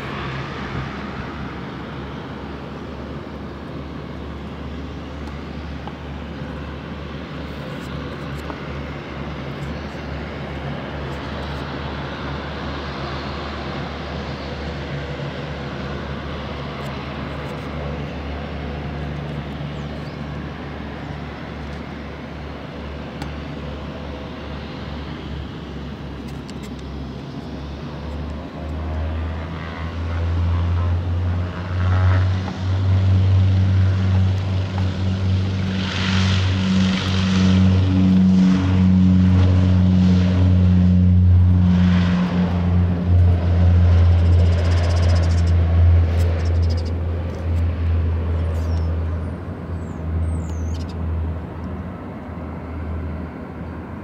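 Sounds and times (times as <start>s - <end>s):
turboprop engines droning: 0.0s - 54.0s.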